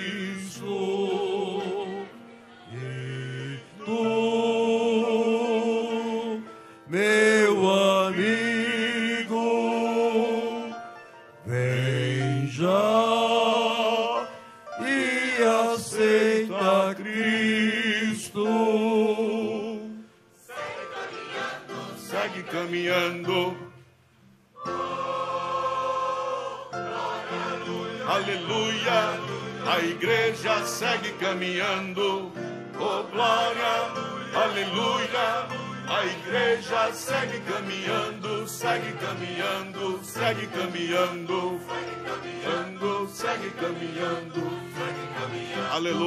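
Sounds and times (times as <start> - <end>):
choir and congregation singing hymn: 0.0 - 10.8, 11.5 - 23.8, 24.6 - 46.0.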